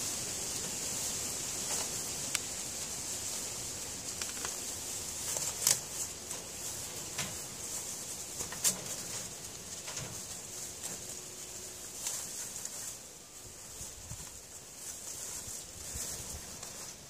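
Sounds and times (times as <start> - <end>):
rabbit rustling shredded paper: 0.0 - 17.0
steady high hiss: 0.0 - 17.0.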